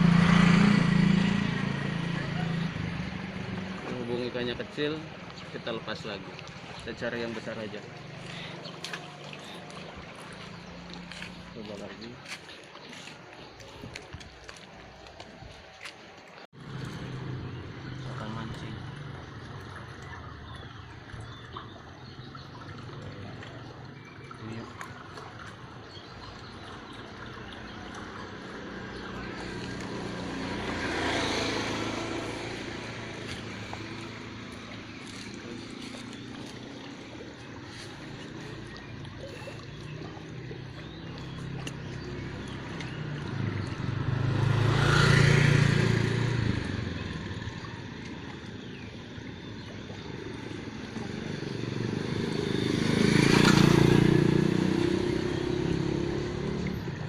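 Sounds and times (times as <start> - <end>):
vehicles passing by: 0.0 - 57.0.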